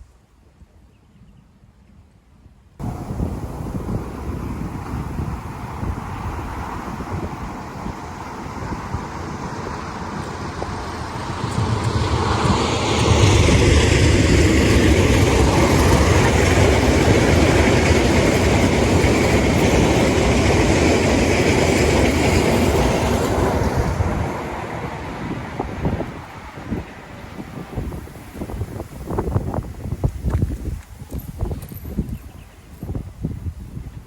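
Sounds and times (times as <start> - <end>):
train wheels rumbling on rails: 2.8 - 34.0.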